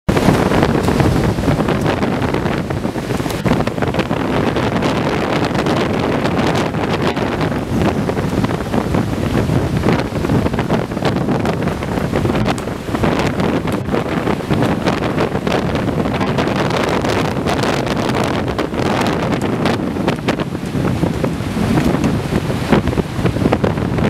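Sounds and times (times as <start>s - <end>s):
storm wind buffeting microphone: 0.1s - 24.0s.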